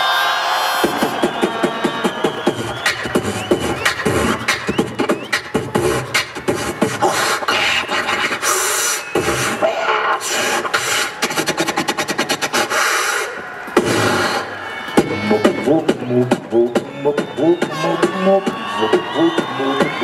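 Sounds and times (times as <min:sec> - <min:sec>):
person beatboxing into a microphone: 0:00.8 - 0:20.0.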